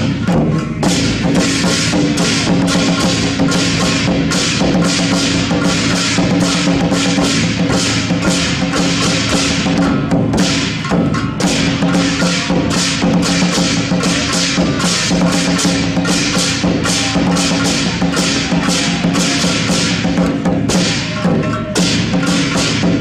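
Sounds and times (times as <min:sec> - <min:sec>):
hand cymbals clashing: 0:00.0 - 0:23.0
large drum beaten with sticks: 0:00.0 - 0:23.0.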